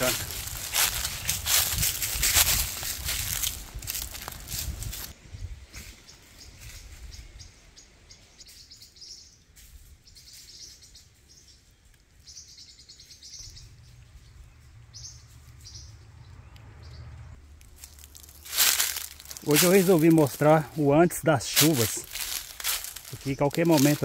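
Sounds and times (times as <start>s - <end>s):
birds chirping: 0.0s - 3.6s, 5.3s - 24.0s.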